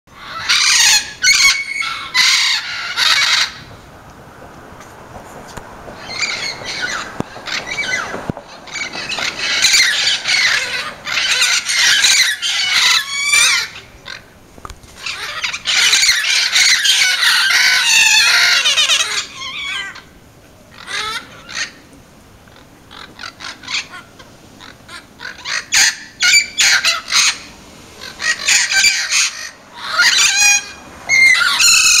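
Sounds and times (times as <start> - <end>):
parrots squawking and screeching: 0.1 - 3.8, 6.0 - 14.3, 15.0 - 20.1, 20.7 - 21.9, 22.5 - 32.0.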